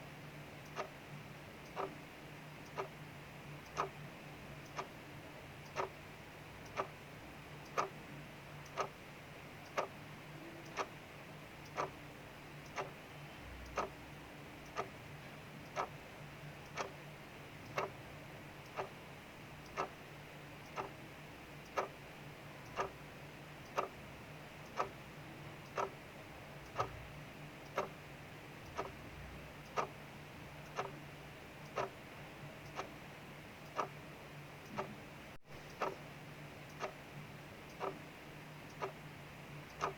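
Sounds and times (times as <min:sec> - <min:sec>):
clock ticking: 0:00.5 - 0:02.0, 0:02.6 - 0:03.0, 0:03.6 - 0:04.0, 0:04.6 - 0:15.0, 0:15.6 - 0:17.0, 0:17.6 - 0:19.0, 0:19.6 - 0:35.0, 0:35.6 - 0:39.0, 0:39.6 - 0:39.9.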